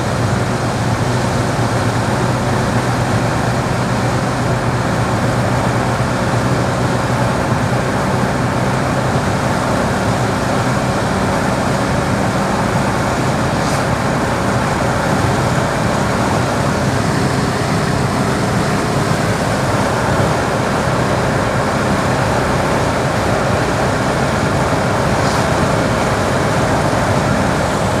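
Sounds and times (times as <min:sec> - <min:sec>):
car engine running steadily: 0:00.0 - 0:28.0
steady rush of noise: 0:00.0 - 0:28.0.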